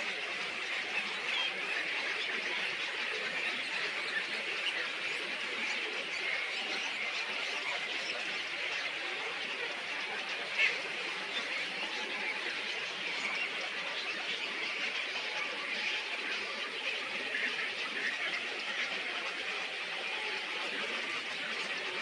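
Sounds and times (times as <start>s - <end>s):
small birds chattering and chirping: 0.0s - 22.0s.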